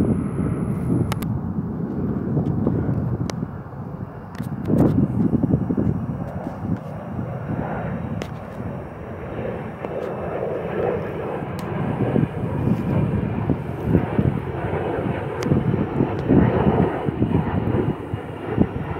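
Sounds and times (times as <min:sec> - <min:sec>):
jet engines rumbling: 0:00.0 - 0:18.9.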